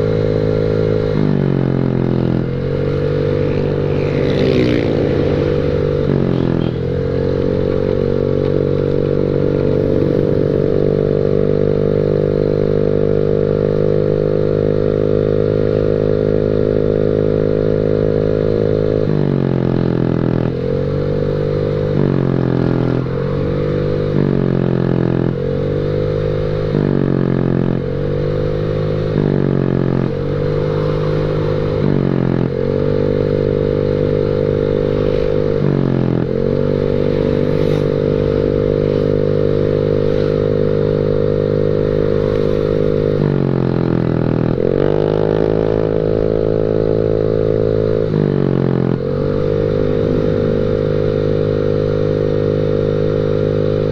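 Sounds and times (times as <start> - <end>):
scooter engine revving: 0.0 - 53.9.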